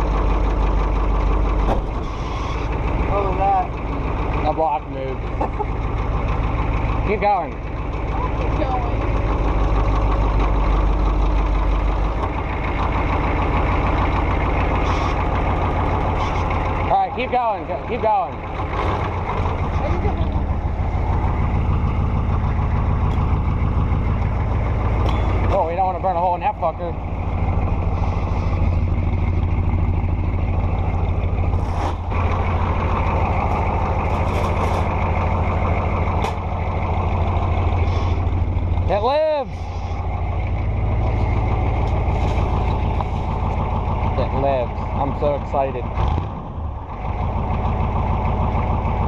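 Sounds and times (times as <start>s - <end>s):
vehicle engine running: 0.0s - 49.0s.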